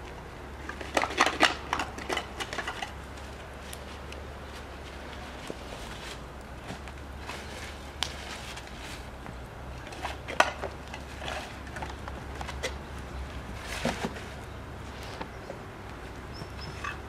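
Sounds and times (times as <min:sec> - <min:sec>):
props handled with clicks and knocks: 0:00.0 - 0:17.0.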